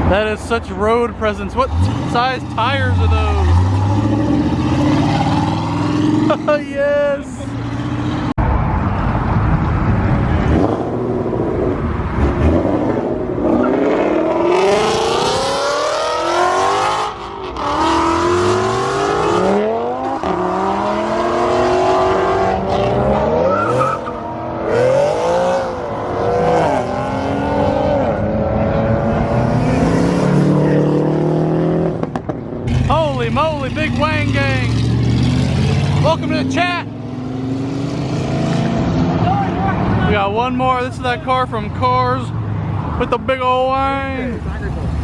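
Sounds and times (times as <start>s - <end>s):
car engines accelerating hard: 0.0s - 45.0s.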